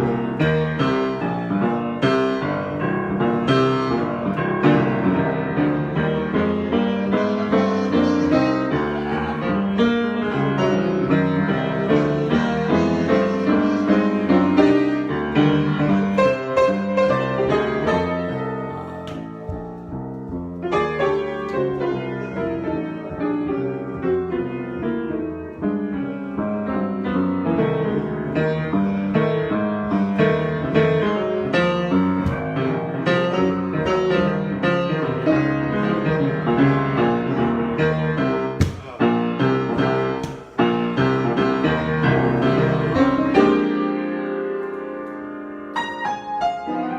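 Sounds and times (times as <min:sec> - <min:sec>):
solo piano improvisation: 0:00.0 - 0:46.9.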